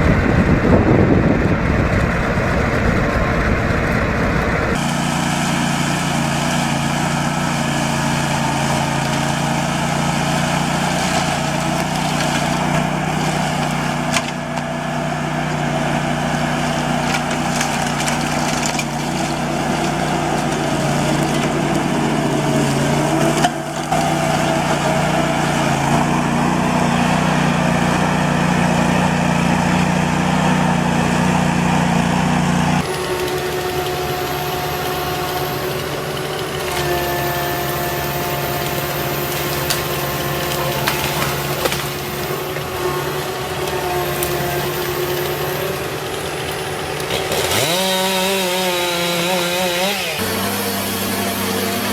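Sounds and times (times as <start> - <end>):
heavy machine engine running: 0.0 - 51.9.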